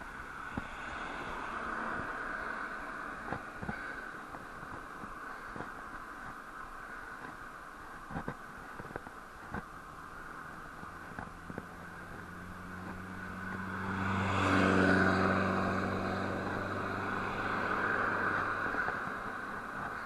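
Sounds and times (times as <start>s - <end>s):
passing vehicle engine hum: 0.0s - 20.0s.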